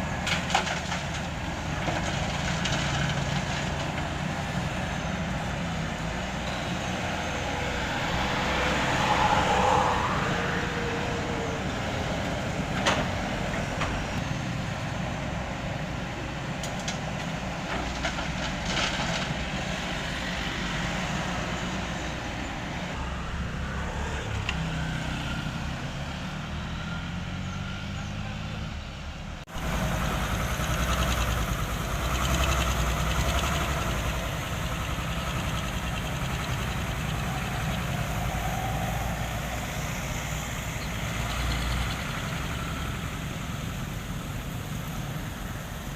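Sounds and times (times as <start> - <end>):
diesel machinery running: 0.0 - 45.9
steady engine: 0.0 - 45.9.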